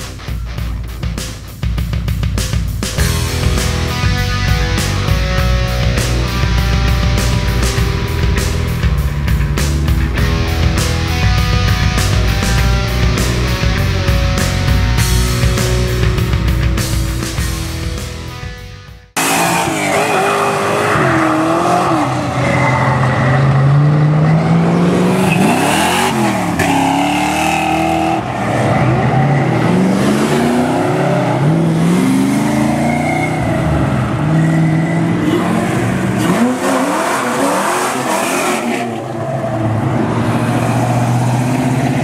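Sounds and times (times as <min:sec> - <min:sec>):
car engines revving: 0:00.9 - 0:18.4, 0:19.1 - 0:42.0.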